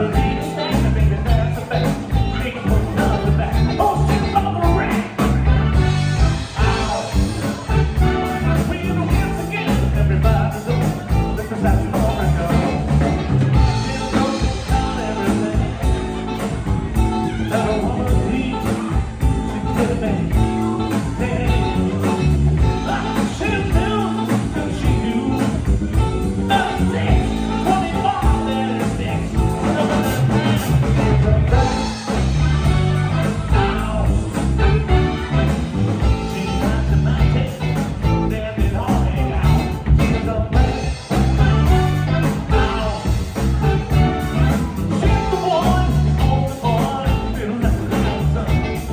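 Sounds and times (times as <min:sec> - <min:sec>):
electric guitar: 0:00.0 - 0:48.9
live blues-rock band: 0:00.0 - 0:48.9
person singing: 0:00.0 - 0:48.9.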